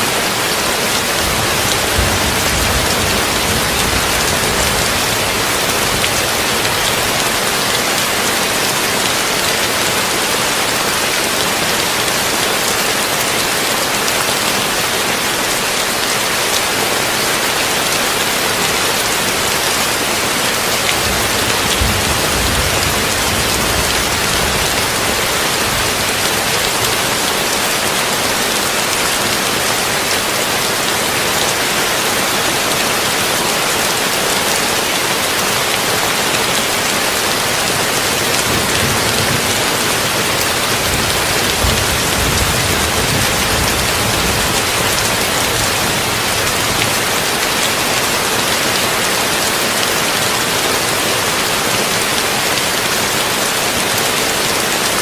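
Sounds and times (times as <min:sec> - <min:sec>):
heavy rain on tin roof: 0:00.0 - 0:55.0.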